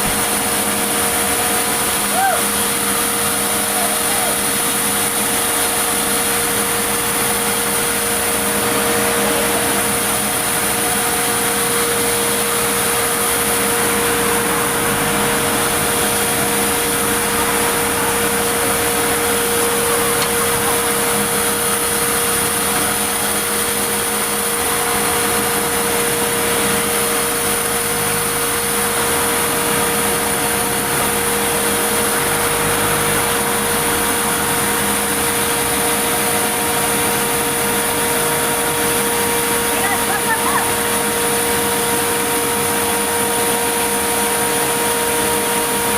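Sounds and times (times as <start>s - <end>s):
sawmill machinery whining: 0.0s - 45.9s.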